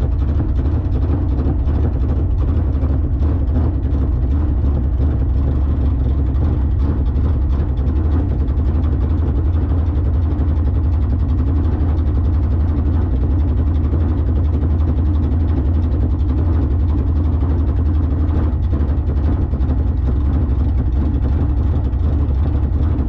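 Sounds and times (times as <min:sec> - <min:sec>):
race car engine idling: 0:00.0 - 0:23.0.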